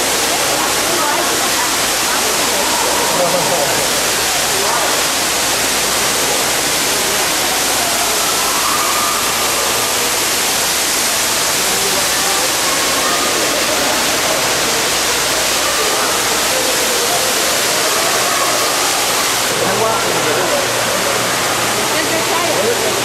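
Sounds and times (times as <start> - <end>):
faint crowd voices: 0.0 - 23.0
waterfall rushing: 0.0 - 23.0.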